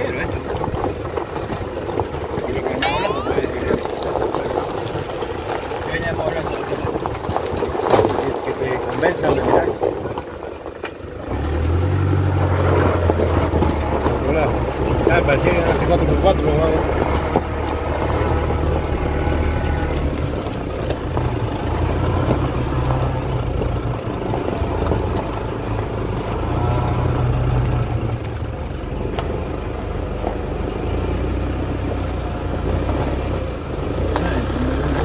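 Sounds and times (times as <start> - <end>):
car engine and road rumble: 0.0 - 2.8, 4.6 - 35.0.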